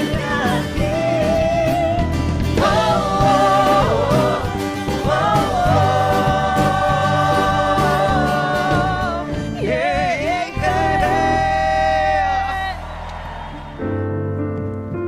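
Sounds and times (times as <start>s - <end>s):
band and choir: 0.0s - 14.0s.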